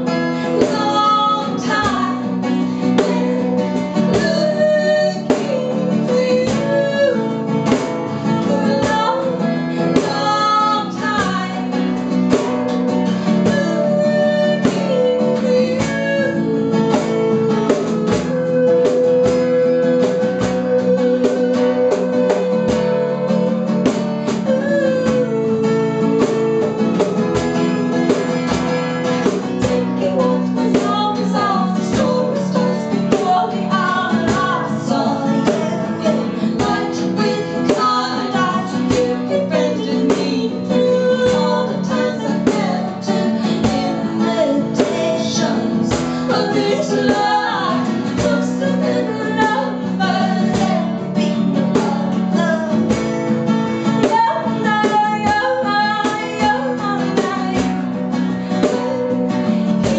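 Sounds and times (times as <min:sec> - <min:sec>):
strummed acoustic guitar: 0:00.0 - 0:59.9
woman singing: 0:00.0 - 0:59.9.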